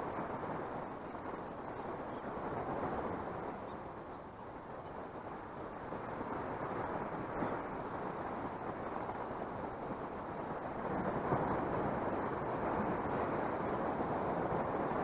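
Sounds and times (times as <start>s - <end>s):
wind rushing across microphone: 0.0s - 15.0s.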